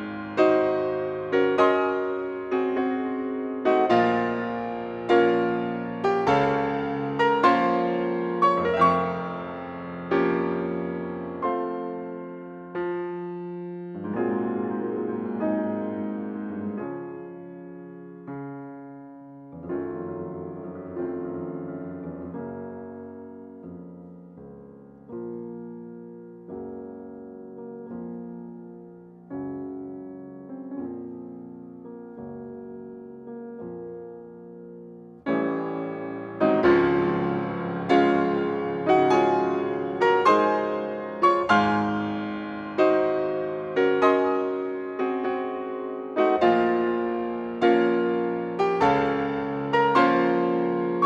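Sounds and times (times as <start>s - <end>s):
slow piano chords: 0.0s - 51.0s.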